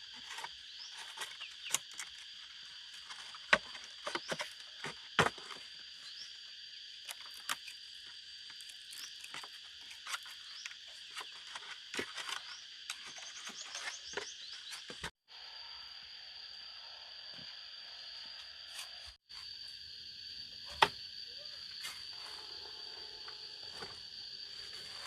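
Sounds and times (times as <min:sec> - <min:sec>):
insect chorus: 0:00.0 - 0:25.0.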